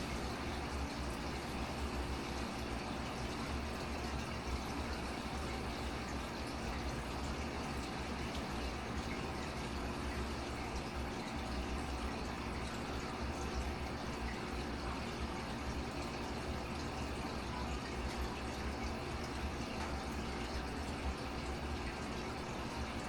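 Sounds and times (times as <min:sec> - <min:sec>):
water running in fish tank: 0:00.0 - 0:23.0.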